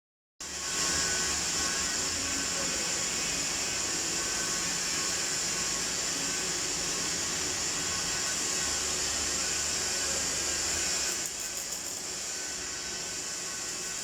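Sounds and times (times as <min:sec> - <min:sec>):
welding arc hissing: 0:00.4 - 0:14.0.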